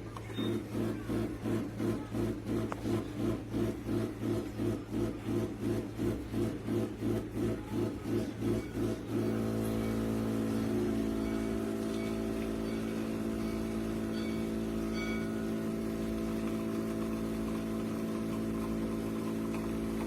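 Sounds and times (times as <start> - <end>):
espresso machine pump humming: 0.0 - 20.0.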